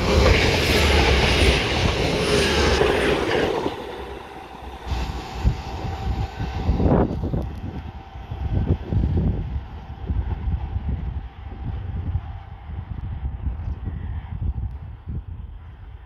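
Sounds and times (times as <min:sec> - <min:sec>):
train passing at speed: 0:00.0 - 0:15.4
wind buffeting microphone: 0:00.0 - 0:16.0.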